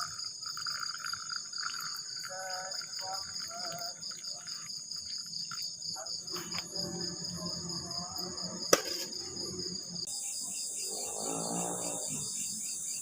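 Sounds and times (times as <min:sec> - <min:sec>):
crickets chirping: 0:00.0 - 0:13.0
pulsing insect call: 0:00.0 - 0:13.0.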